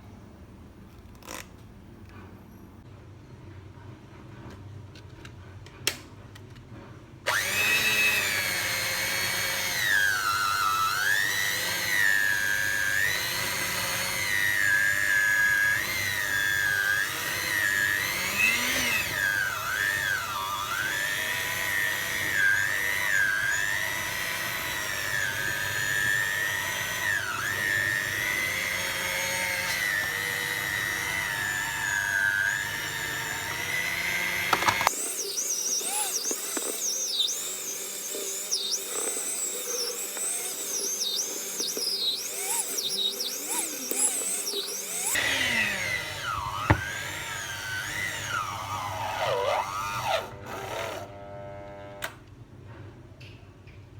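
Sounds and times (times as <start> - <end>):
small electric motor whining: 7.3 - 52.2.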